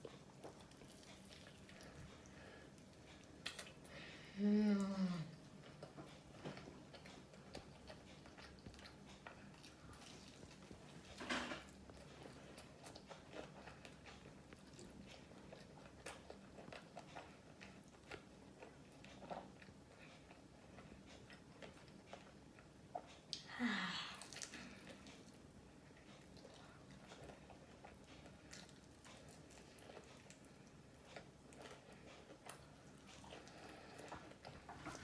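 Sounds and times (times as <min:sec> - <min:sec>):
chewing and biting chicken: 0:00.0 - 0:03.9, 0:05.4 - 0:23.4, 0:24.2 - 0:35.0.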